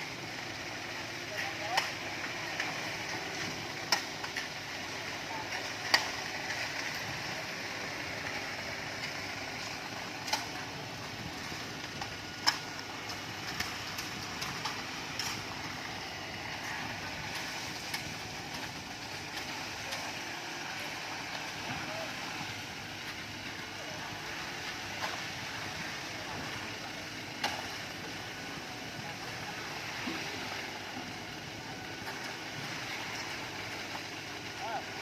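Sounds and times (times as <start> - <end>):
machinery noise: 0.0 - 35.0.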